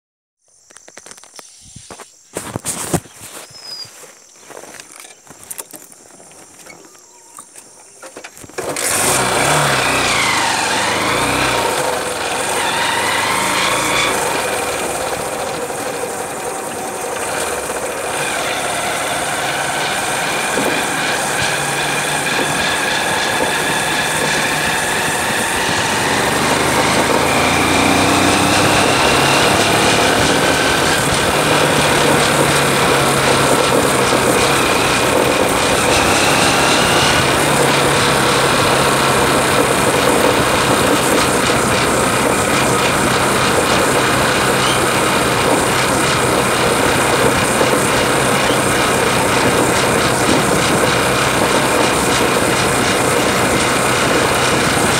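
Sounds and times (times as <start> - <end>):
motorcycle engine running: 8.6 - 54.9.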